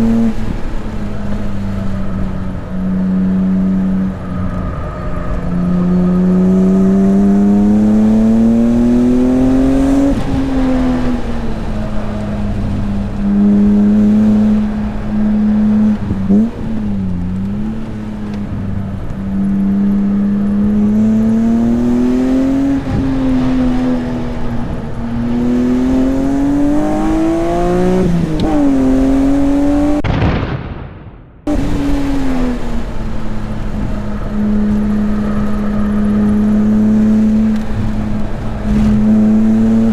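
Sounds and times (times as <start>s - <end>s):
car engine revving: 0.0s - 30.5s, 31.4s - 39.9s.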